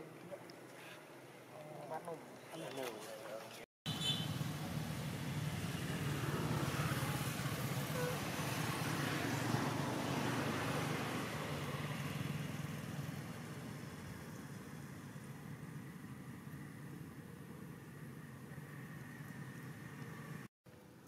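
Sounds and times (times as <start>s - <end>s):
vehicle engine rumble: 3.9s - 21.0s.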